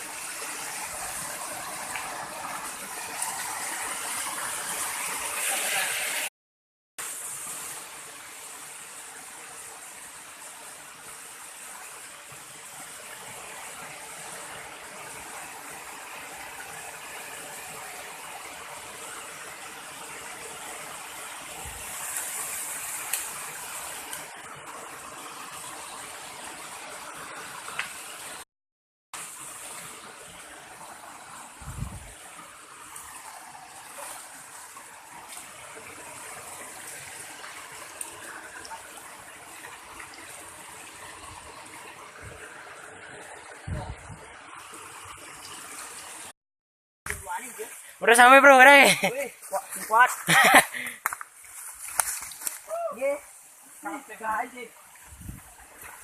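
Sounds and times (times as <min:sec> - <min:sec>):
stream water rushing: 0:00.0 - 0:06.3, 0:07.0 - 0:28.4, 0:29.2 - 0:46.4, 0:47.1 - 0:56.0.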